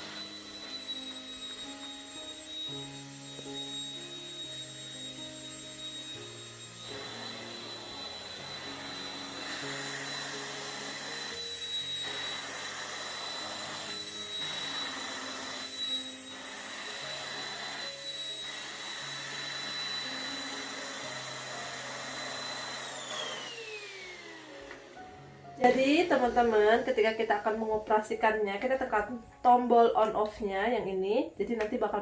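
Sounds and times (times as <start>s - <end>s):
handheld vacuum whining: 0.0s - 28.0s.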